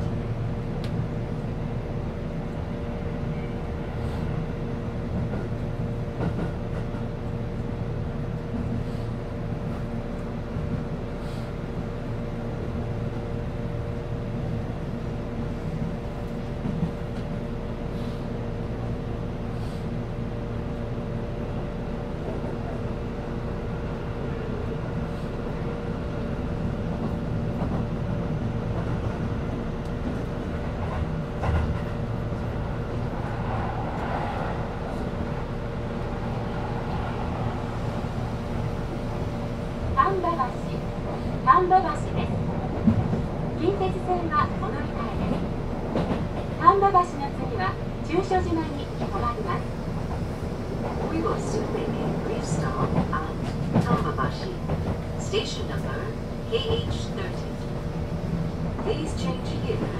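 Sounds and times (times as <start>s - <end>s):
train rumble with humming tone: 0.0s - 59.9s.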